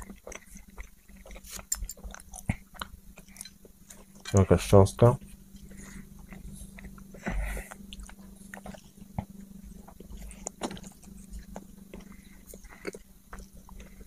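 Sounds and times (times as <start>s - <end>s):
person chewing: 0.0s - 4.5s, 5.2s - 14.0s
low steady hum: 0.0s - 14.0s.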